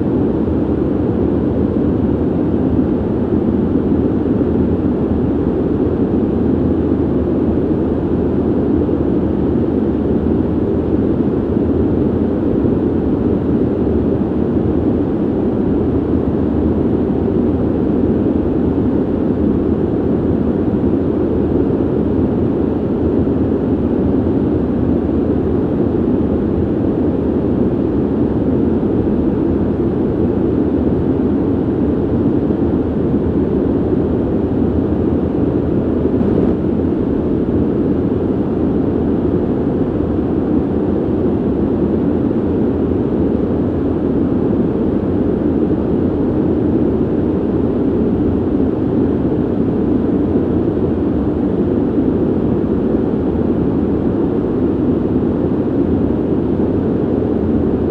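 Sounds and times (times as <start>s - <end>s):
ventilation air rushing hum: 0.0s - 57.9s.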